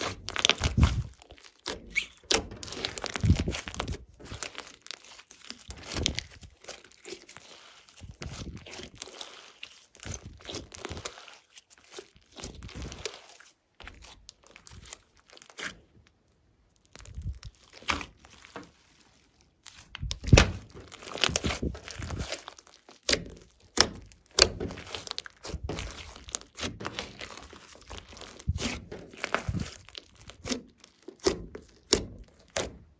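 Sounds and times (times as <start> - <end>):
slime squelching and popping: 0.0 - 32.9.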